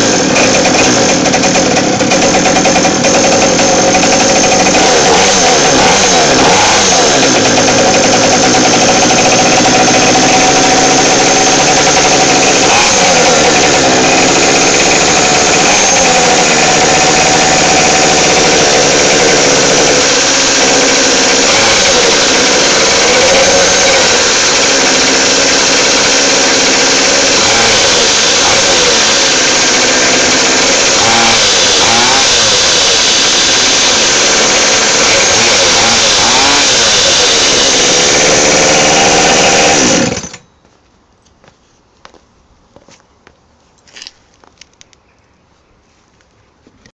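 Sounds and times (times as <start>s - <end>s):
small two-stroke engine revving: 0.0s - 40.4s.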